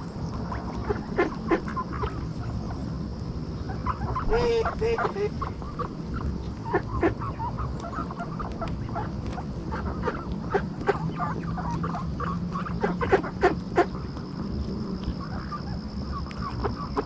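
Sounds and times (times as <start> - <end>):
ducks calling: 0.0 - 3.0, 3.6 - 14.3, 14.9 - 17.0
sharp clicks of ducks feeding: 0.0 - 17.0.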